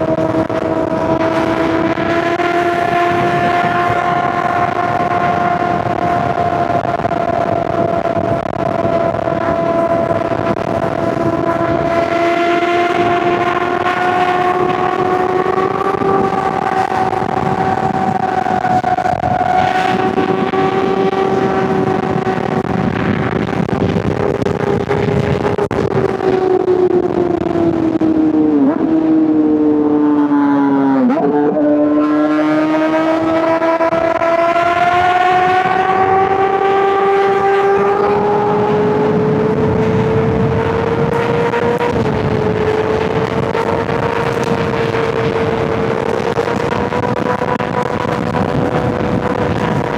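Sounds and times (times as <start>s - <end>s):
motorcycle engine at high revs: 0.0s - 49.9s.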